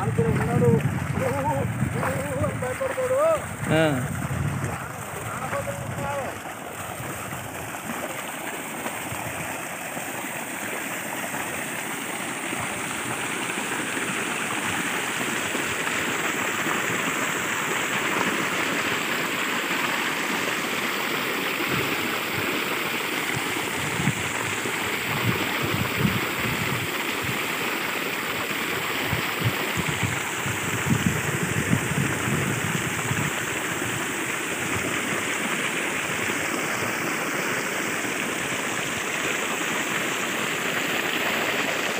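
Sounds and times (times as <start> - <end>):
water gushing and splashing: 0.0 - 41.9.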